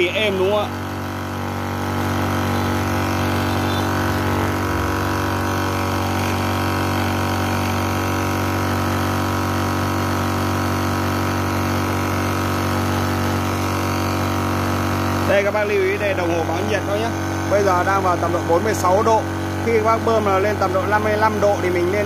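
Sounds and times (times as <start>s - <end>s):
air compressor humming: 0.0s - 22.0s.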